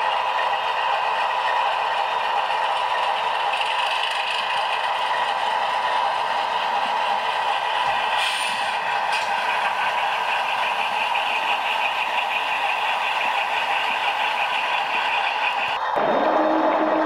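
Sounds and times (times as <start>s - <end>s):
diesel engine sound from small speaker: 0.0s - 17.0s
model train rolling on track: 0.0s - 17.0s.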